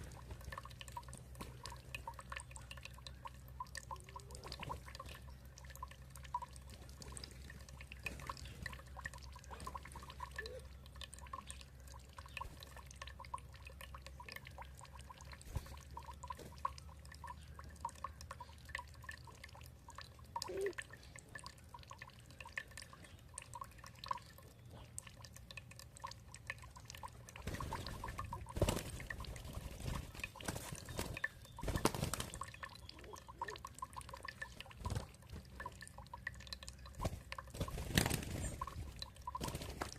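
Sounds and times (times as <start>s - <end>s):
low steady hum: 0.0s - 39.9s
water dripping and trickling: 0.0s - 39.9s.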